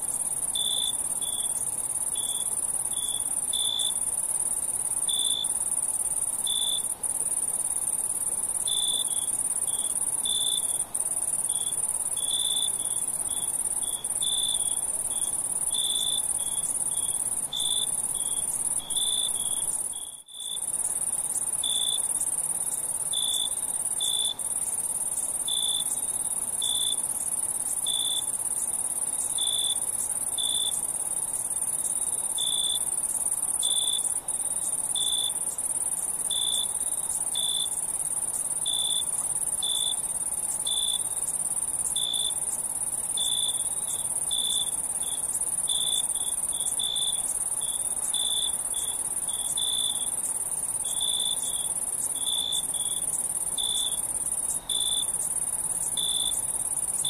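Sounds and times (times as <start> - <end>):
crickets trilling: 0.1 - 57.0.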